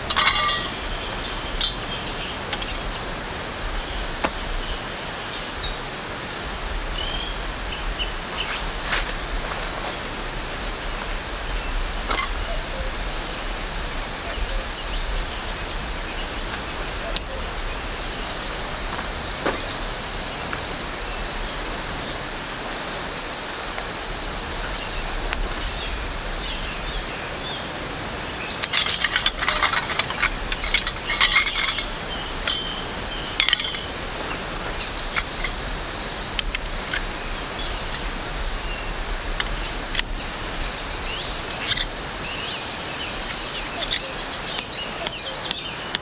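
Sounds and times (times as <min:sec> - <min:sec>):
birds chirping: 0:00.0 - 0:46.0
high insect drone: 0:00.0 - 0:46.0
steady hiss: 0:00.0 - 0:46.0.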